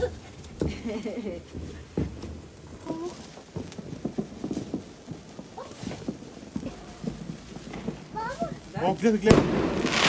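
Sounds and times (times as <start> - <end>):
fireworks popping and cracking: 0.0 - 10.0.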